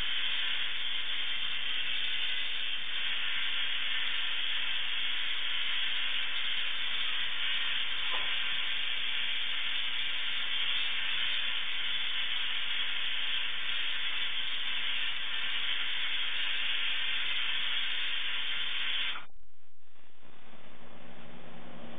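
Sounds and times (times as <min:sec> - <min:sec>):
tesla coil sparks hissing: 0:00.0 - 0:19.3.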